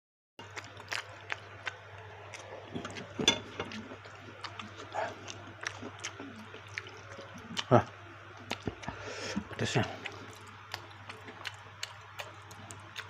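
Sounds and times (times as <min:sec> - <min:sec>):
mouth clicks and smacks while eating: 0:00.4 - 0:13.0
steady low hum: 0:00.4 - 0:13.0.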